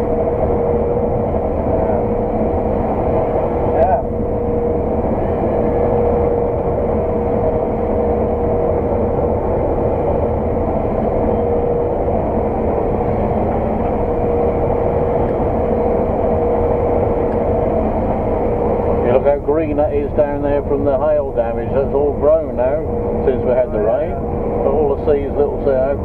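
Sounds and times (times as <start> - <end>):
combine harvester engine drone: 0.0 - 26.0
mid-pitched machinery whine: 0.0 - 26.0.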